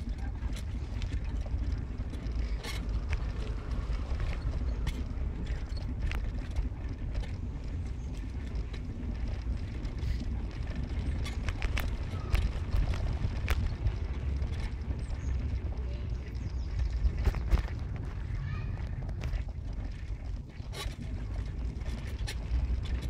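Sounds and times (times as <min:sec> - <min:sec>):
car road and engine rumble: 0:00.0 - 0:23.0
clicks and rattles from bumps: 0:00.0 - 0:23.0.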